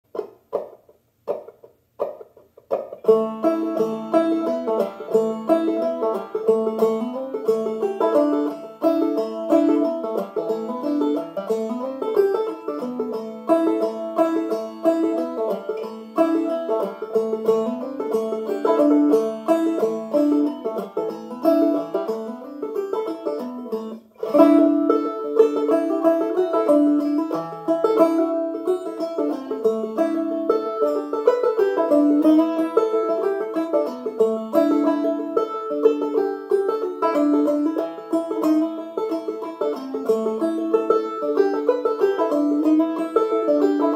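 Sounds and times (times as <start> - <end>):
banjo played clawhammer style: 0.0 - 43.9.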